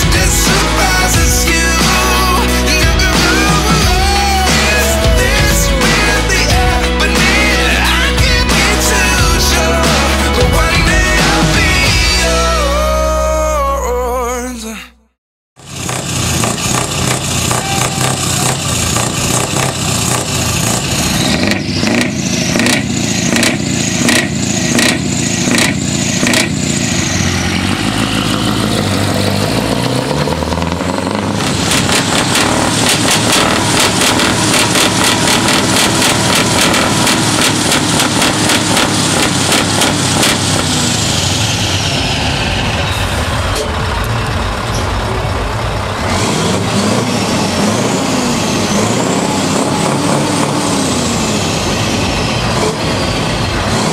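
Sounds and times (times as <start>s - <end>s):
truck diesel engine revving: 0.0s - 14.6s, 15.6s - 53.9s.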